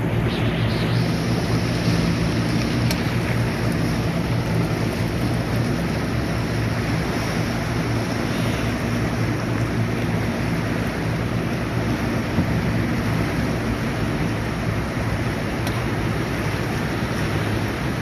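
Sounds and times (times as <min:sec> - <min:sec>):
boat motor running: 0:00.0 - 0:18.0
churning river water: 0:00.0 - 0:18.0.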